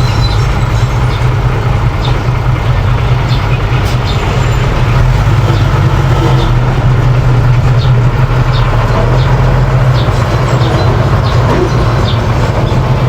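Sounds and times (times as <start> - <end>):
bulldozer engine droning: 0.0 - 13.0.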